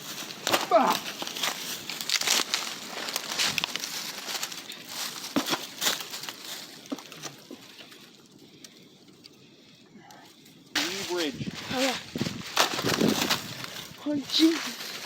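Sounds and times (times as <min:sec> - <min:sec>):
dry sticks and leaves crackling: 0:00.0 - 0:15.0.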